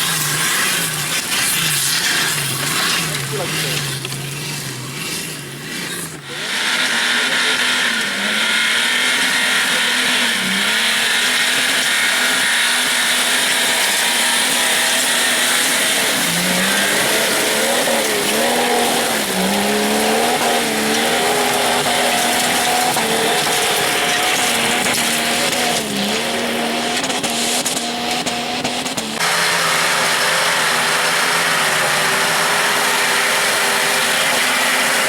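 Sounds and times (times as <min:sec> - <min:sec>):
engine revving high: 0:00.0 - 0:35.0
tyres churning through loose stone: 0:00.0 - 0:35.0.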